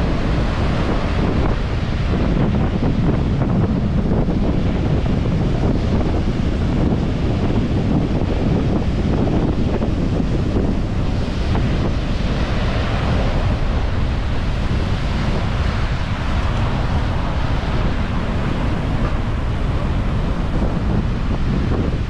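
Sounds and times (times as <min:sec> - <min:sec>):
sea waves breaking on beach: 0:00.0 - 0:22.0
wind buffeting microphone: 0:00.0 - 0:22.0.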